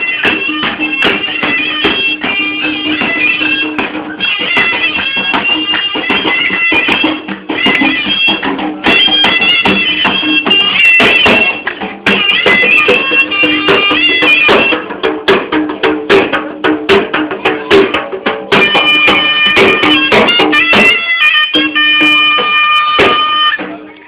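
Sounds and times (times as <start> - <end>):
double-reed pipe melody: 0.0 - 15.0, 18.5 - 24.0
rapid drum beats: 0.0 - 24.0.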